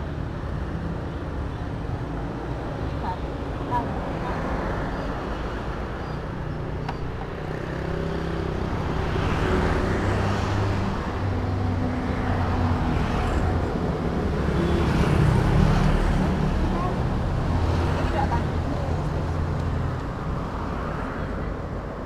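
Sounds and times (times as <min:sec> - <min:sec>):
passing vehicle engines: 0:00.0 - 0:22.0.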